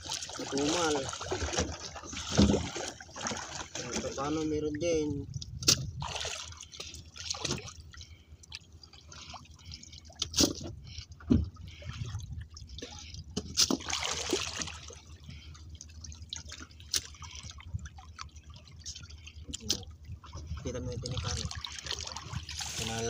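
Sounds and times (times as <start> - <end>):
seawater dripping and splashing: 0.0 - 23.0.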